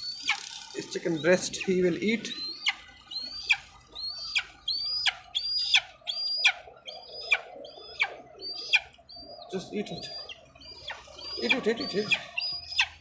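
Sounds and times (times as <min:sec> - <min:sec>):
young eagle calling: 0:00.0 - 0:13.0.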